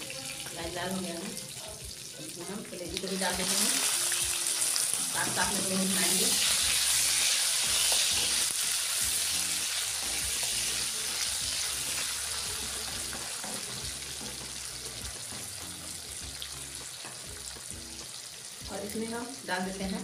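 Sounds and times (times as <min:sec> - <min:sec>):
liver and onions sizzling: 0:00.0 - 0:20.0.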